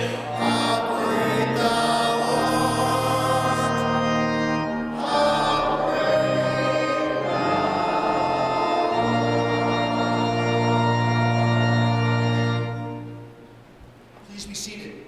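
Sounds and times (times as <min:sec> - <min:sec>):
church organ chords: 0:00.0 - 0:14.7.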